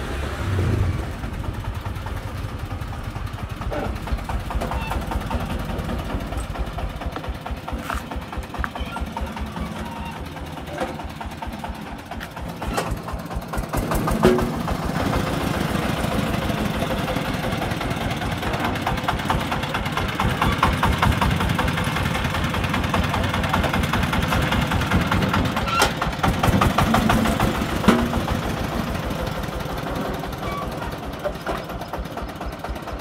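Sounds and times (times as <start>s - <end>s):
diesel engine chugging: 0.0s - 33.0s.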